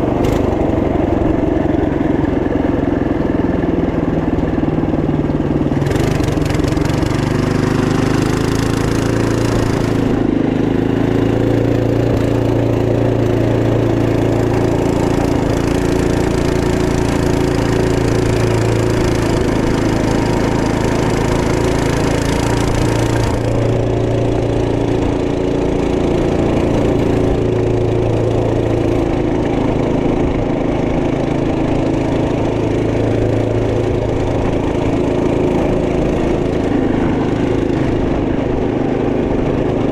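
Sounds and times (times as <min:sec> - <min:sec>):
minibike engine running: 0:00.0 - 0:39.9.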